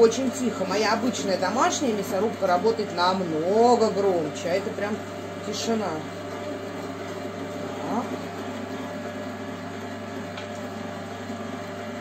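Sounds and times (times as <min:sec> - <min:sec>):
electric meat grinder humming: 0:00.0 - 0:12.0.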